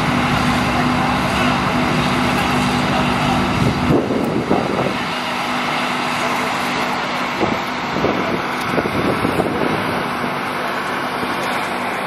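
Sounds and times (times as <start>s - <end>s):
outdoor noise: 0.0s - 12.0s
rough engine rumble: 0.0s - 12.0s
ship engine humming: 0.0s - 12.0s.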